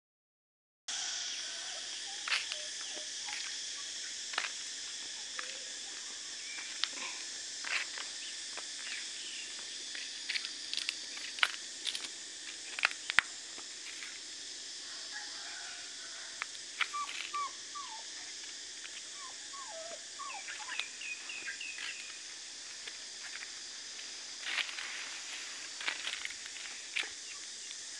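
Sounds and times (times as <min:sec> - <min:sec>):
high-pitched insect chorus: 0:00.9 - 0:27.9.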